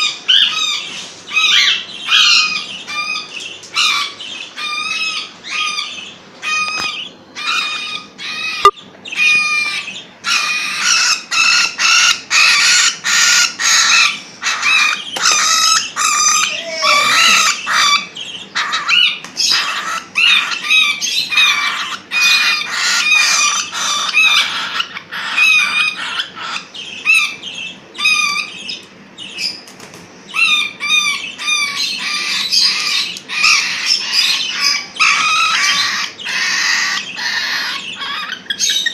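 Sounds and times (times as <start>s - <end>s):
parrots calling harshly: 0.0s - 29.6s, 30.3s - 38.9s.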